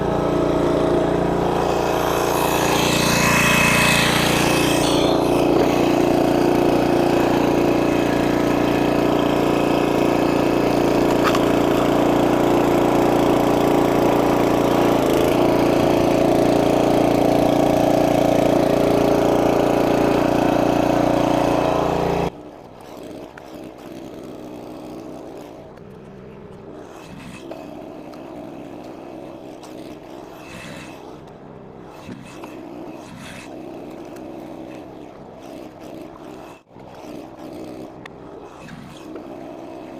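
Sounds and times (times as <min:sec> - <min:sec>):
gasoline engine running at high speed: 0:00.0 - 0:39.9.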